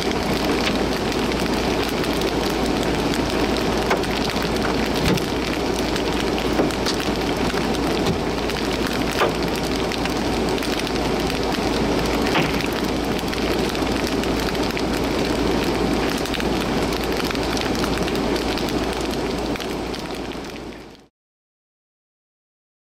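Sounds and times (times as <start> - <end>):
crackling raindrop hits: 0.0 - 21.1
steady rain falling: 0.0 - 21.1.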